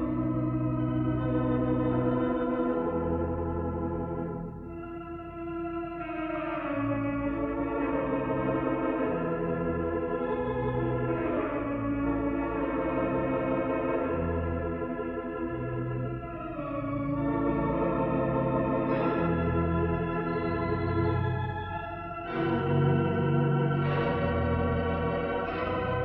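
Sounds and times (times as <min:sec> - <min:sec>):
pipe organ chords: 0:00.0 - 0:26.0.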